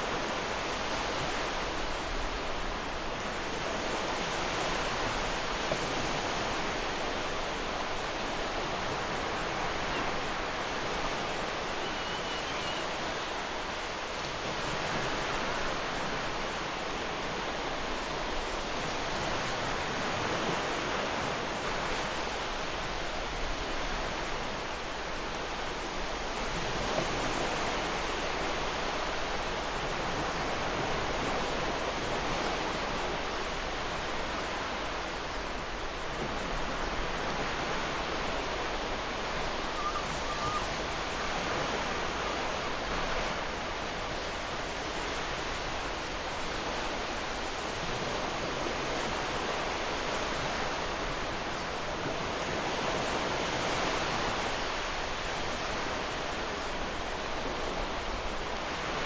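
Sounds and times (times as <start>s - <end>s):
surf washing up a beach: 0.0s - 59.0s.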